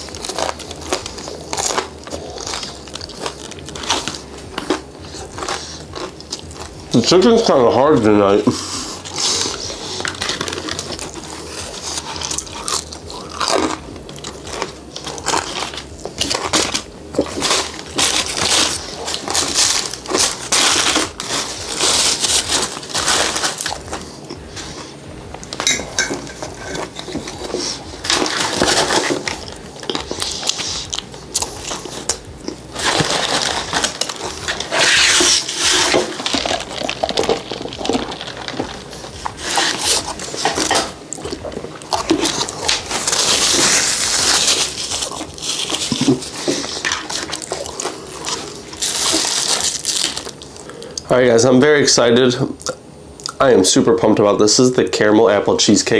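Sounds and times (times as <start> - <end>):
crunchy chewing: 0.0 - 51.2
paper bag crinkling: 0.0 - 51.5.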